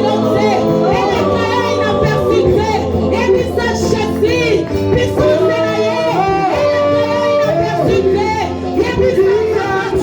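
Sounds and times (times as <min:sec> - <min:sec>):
instrumental backing: 0:00.0 - 0:10.0.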